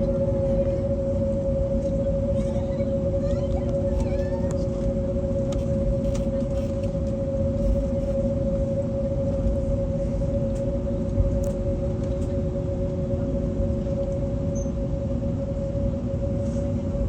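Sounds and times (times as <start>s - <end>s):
airplane cabin engine hum: 0.0s - 17.0s.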